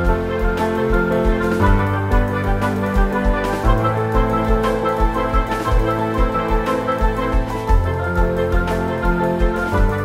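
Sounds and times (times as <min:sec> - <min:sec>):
instrumental music with low beat: 0:00.0 - 0:10.0.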